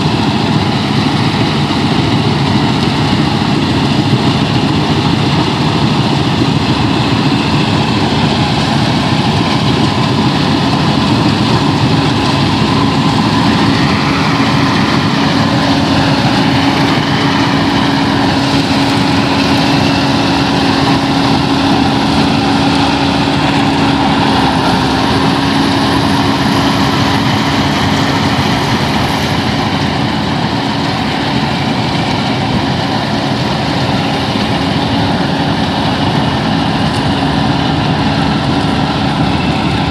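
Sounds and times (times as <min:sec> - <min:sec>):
harvester engine humming: 0:00.0 - 0:39.9.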